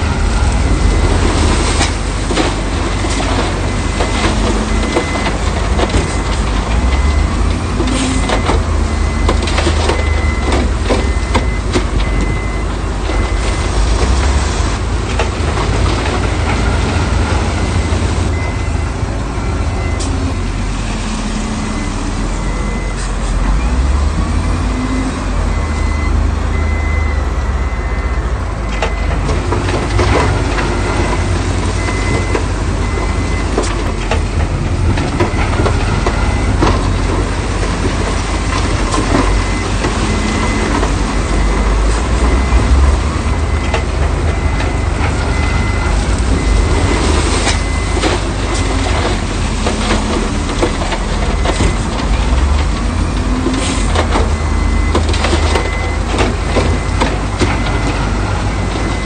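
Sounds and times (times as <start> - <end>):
knocks and clanks: 0.0 - 20.4, 28.6 - 59.0
diesel machinery engine drone: 0.0 - 59.0.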